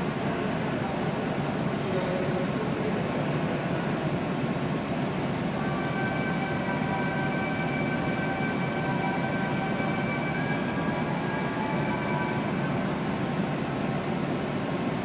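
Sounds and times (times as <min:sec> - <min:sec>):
train drive whine: 0:00.0 - 0:15.0.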